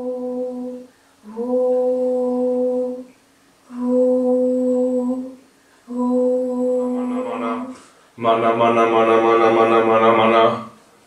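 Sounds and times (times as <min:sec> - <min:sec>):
woman humming steady notes: 0:00.0 - 0:10.8.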